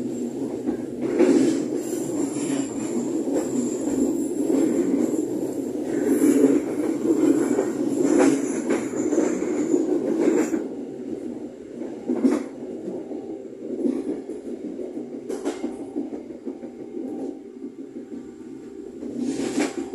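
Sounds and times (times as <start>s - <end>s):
train rumble: 0.0s - 19.9s.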